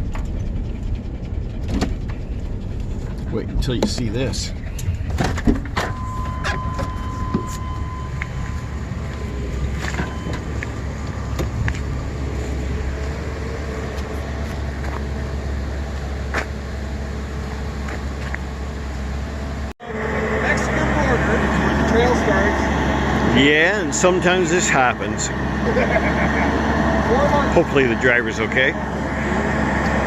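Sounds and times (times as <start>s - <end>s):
van engine and road rumble: 0.0s - 30.0s.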